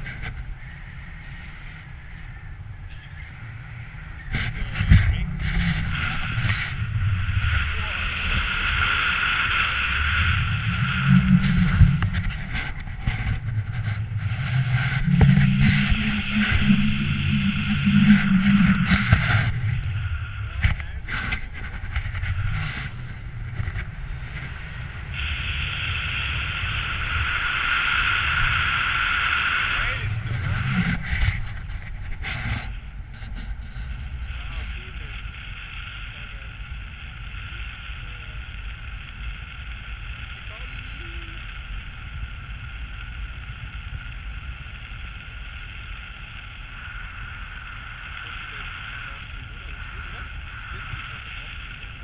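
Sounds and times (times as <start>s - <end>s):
wind buffeting microphone: 0.0s - 52.0s
higher hiss: 2.9s - 32.8s, 33.5s - 52.0s.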